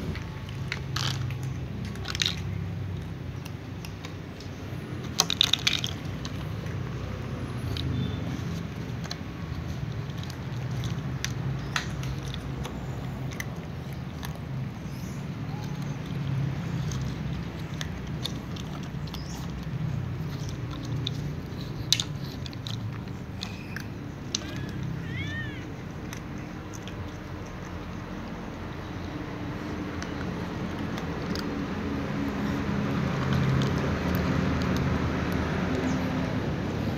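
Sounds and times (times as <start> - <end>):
cats eating from plastic bowls: 0.0 - 36.9
kittens chewing: 0.0 - 36.9.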